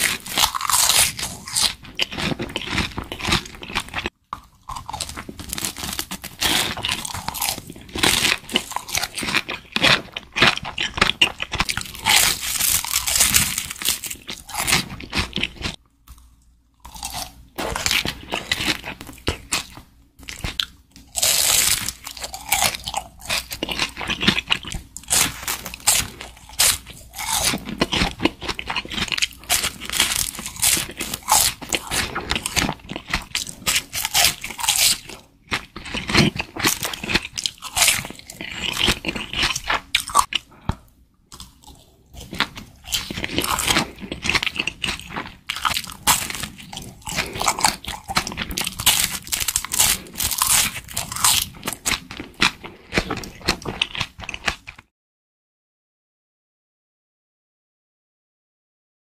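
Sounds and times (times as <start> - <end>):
crunchy chewing: 0.0 - 54.8.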